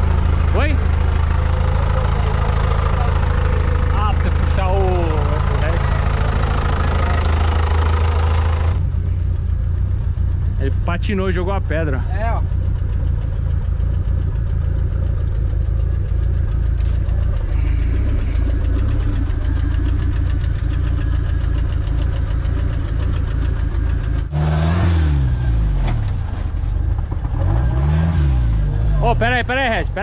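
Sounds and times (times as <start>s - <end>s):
jeep engine running under load: 0.0s - 30.0s.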